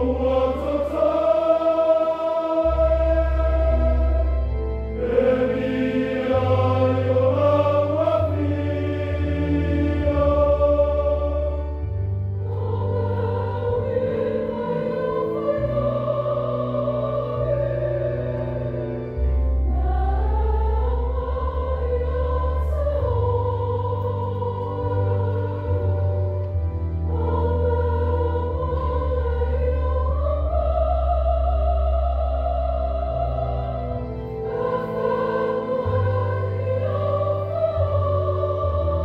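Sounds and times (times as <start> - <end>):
choir singing slowly: 0.0 - 39.0
deep sustained bass notes: 0.0 - 39.0.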